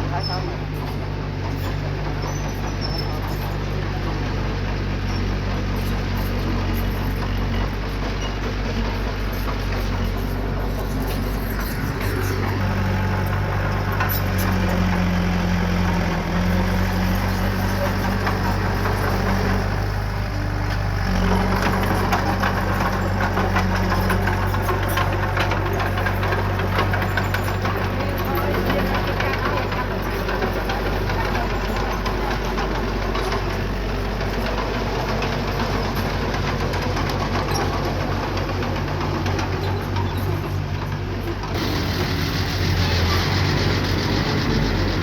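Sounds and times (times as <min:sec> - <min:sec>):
diesel engine of earthmoving machine: 0:00.0 - 0:45.0.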